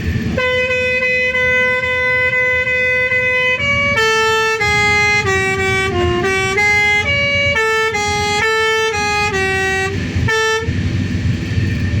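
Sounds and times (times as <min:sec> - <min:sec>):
bus engine rumble: 0:00.0 - 0:12.0
road noise: 0:00.0 - 0:12.0
bus horn playing a tune: 0:00.1 - 0:11.3.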